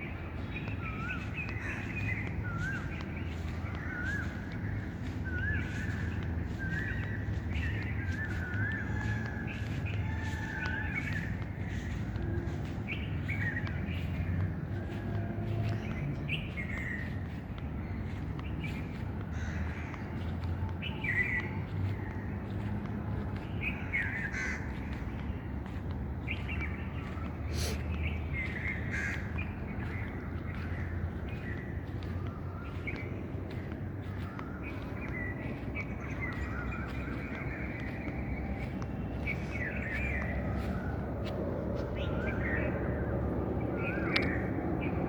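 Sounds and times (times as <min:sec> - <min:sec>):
birds calling: 0:00.0 - 0:45.0
steady low rumble: 0:00.0 - 0:45.0.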